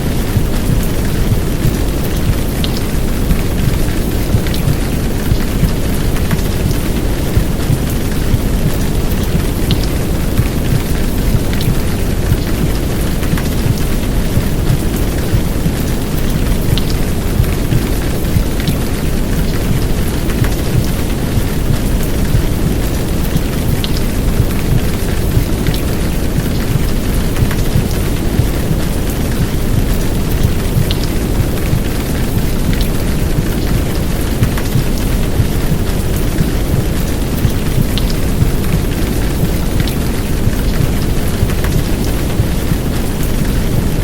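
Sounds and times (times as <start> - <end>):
heavy rain downpour: 0.0 - 44.0.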